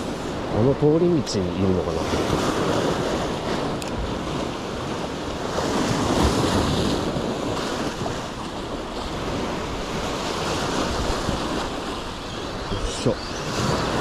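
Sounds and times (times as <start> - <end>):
sea waves washing in: 0.0 - 14.0
wind on microphone: 0.0 - 14.0.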